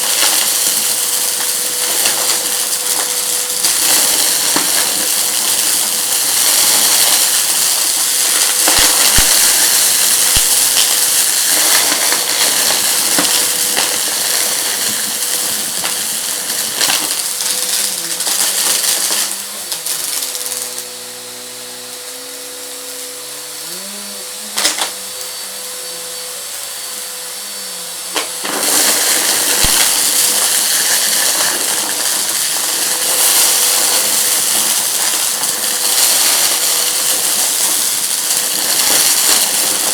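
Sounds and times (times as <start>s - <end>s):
debris crackling in vacuum: 0.0s - 21.0s, 24.5s - 25.8s, 28.0s - 39.9s
vacuum cleaner running: 0.0s - 39.9s.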